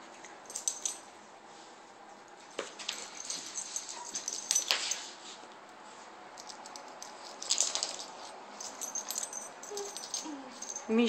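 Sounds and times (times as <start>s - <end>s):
rustles and clicks of dogs playing: 0.0s - 11.0s.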